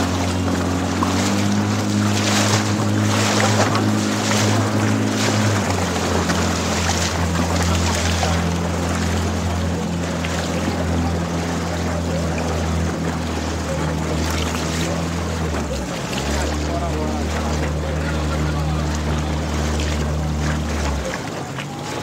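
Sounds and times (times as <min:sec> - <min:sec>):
motorboat engine humming: 0:00.0 - 0:22.0
water rushing past hull: 0:00.0 - 0:22.0.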